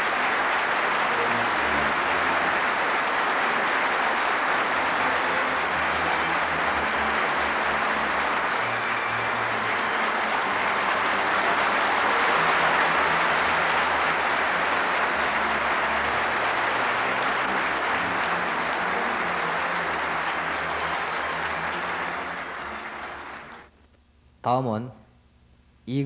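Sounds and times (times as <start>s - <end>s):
audience applauding: 0.0s - 23.7s.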